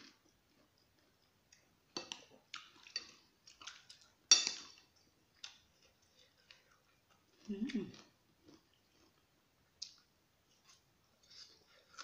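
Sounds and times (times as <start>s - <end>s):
chewing and mouth noises: 0.0s - 12.0s.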